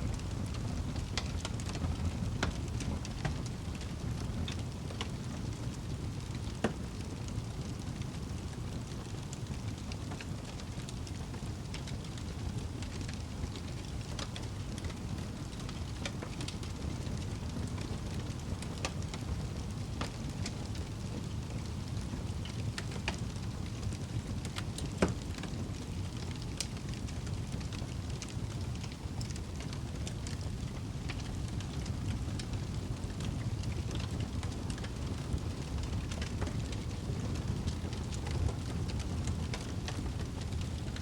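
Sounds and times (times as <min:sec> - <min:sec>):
fire flames rumbling: 0:00.0 - 0:41.0
wood fire crackling and popping: 0:00.0 - 0:41.0.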